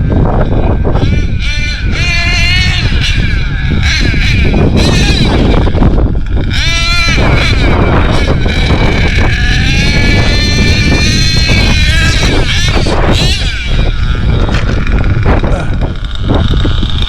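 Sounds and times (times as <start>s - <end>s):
nitro engine revving high: 0.0s - 17.0s.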